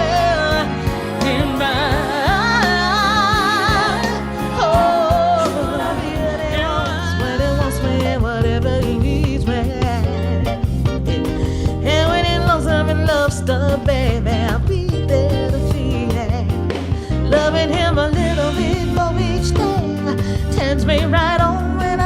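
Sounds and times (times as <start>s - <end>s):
backing band with drums: 0.0s - 22.0s
person singing with vibrato: 0.0s - 22.0s.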